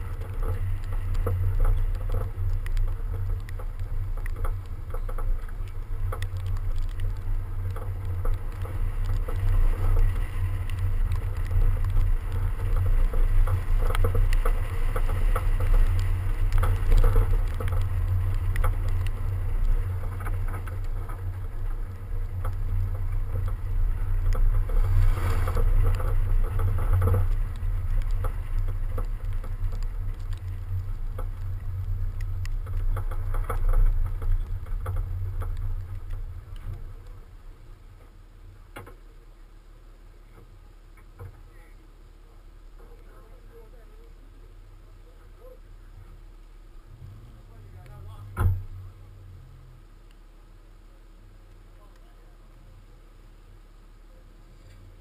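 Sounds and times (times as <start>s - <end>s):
snow pattering against car: 0.0s - 55.0s.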